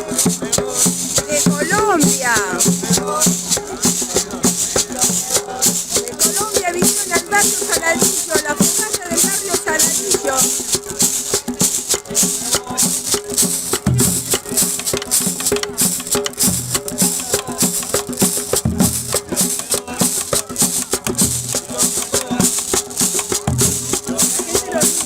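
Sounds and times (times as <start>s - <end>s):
fast shaker rhythm: 0.0s - 25.0s.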